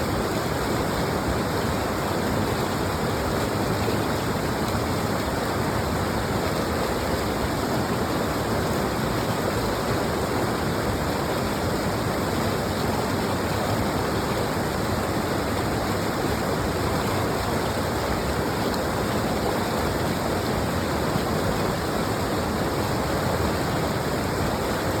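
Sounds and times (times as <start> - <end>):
stream of water rushing: 0.0 - 25.0.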